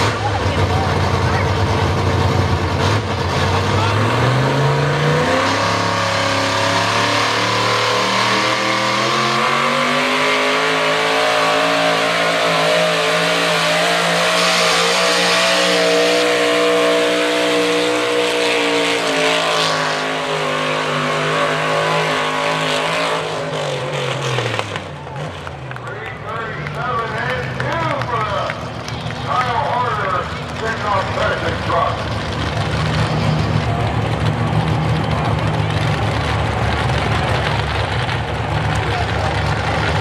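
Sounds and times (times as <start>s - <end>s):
pickup engine revving under load: 0.0s - 40.0s.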